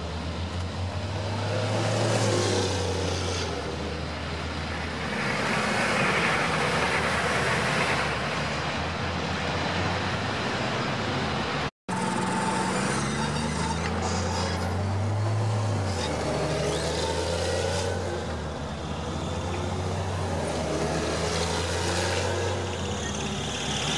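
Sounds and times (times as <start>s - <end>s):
military truck passing: 0.0s - 23.9s.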